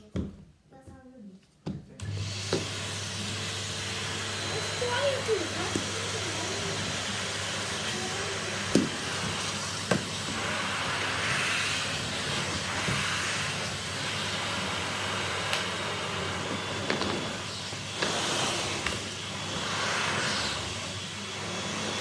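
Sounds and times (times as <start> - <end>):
vacuum cleaner running: 2.0 - 22.0.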